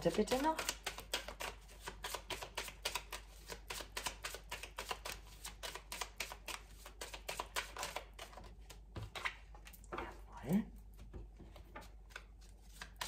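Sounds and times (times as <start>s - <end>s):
cards being shuffled: 0.0s - 9.4s, 11.7s - 13.0s.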